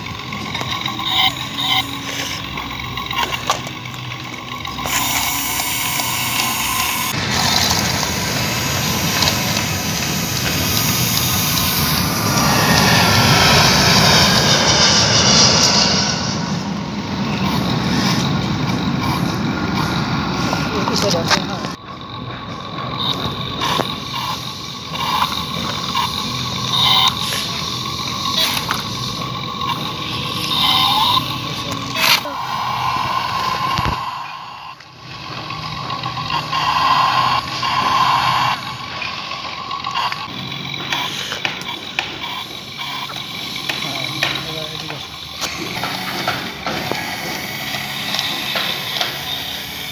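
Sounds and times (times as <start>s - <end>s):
toy motor and gears whining: 0.0s - 14.7s, 17.0s - 49.9s
loud engine-like drone: 0.0s - 49.9s.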